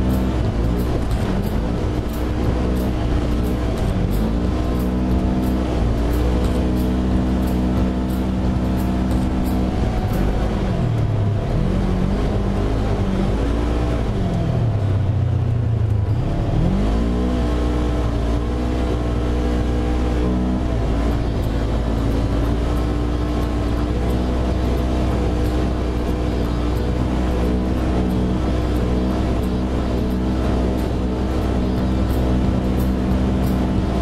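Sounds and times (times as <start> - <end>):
utility vehicle engine revving: 0.0 - 34.0.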